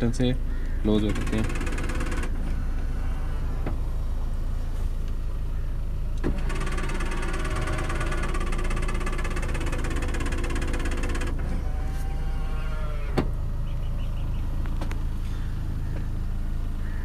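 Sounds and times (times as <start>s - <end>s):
car engine idling: 0.0s - 17.0s
door mirror motor whirring: 0.7s - 5.4s, 6.0s - 15.0s.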